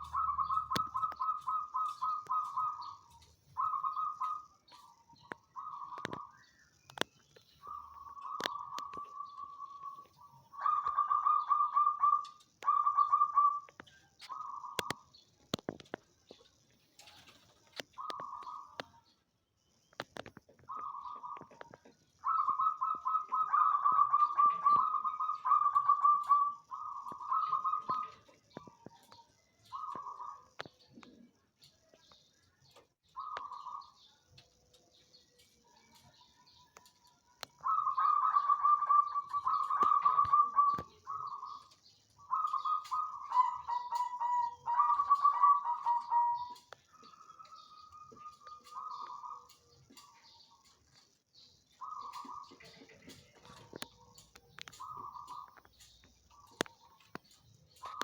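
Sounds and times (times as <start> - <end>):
dove cooing: 0.0 - 6.4, 7.6 - 15.2, 17.0 - 18.9, 20.6 - 31.6, 32.7 - 34.1, 35.8 - 50.8, 51.4 - 58.0
small birds chirping: 0.0 - 58.0.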